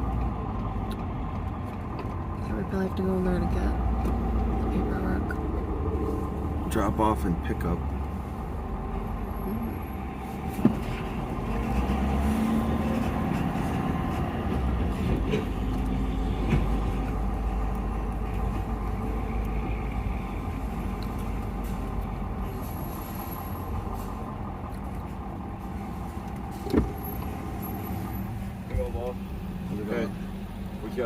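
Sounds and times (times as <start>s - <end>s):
vehicle engine low rumble: 0.0s - 31.0s.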